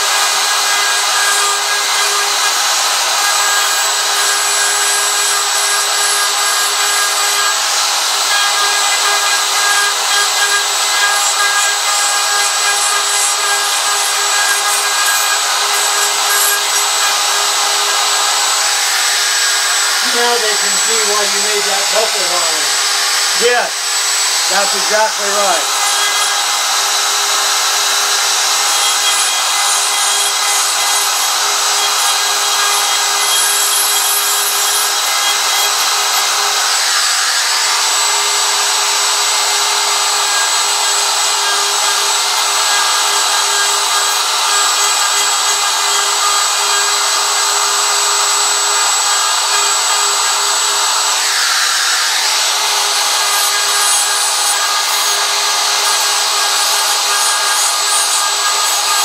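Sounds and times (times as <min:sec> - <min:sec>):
router cutting wood: 0:00.0 - 0:59.0.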